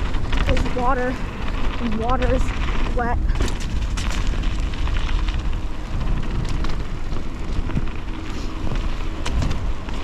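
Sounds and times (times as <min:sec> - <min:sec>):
bike knocks and rattles: 0:00.0 - 0:10.0
bike tyres rumbling on dirt trail: 0:00.0 - 0:10.0
wind rushing over microphone: 0:00.0 - 0:10.0.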